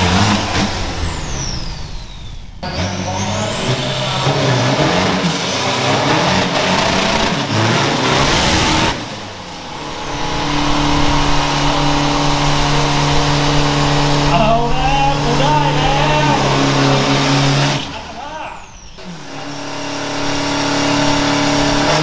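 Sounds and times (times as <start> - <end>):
truck engine revving: 0.0 - 22.0
tyres spinning: 0.0 - 22.0.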